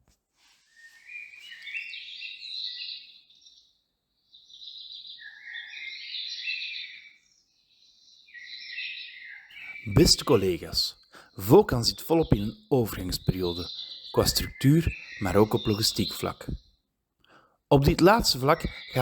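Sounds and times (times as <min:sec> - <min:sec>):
songbird twittering: 0:00.8 - 0:16.8, 0:17.7 - 0:19.0.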